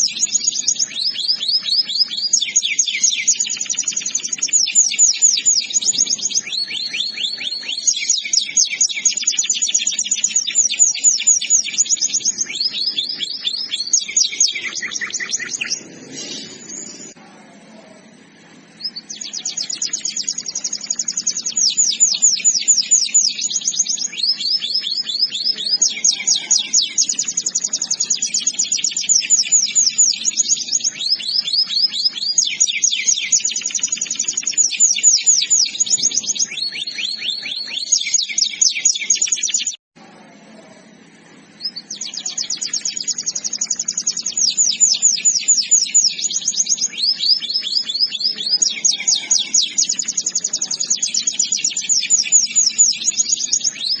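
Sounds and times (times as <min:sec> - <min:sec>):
canary singing trills: 0:00.0 - 0:39.8, 0:40.8 - 0:54.0.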